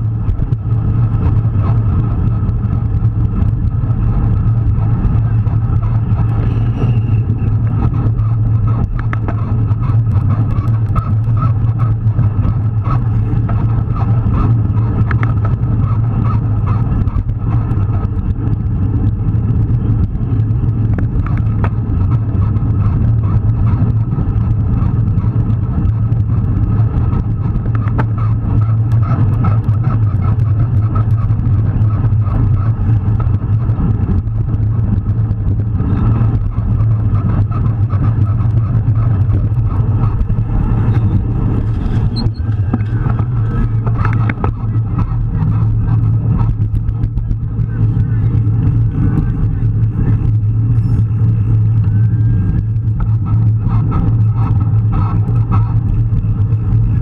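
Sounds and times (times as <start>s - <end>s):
road rumble: 0.0s - 57.0s
wind rush on microphone: 0.0s - 57.0s.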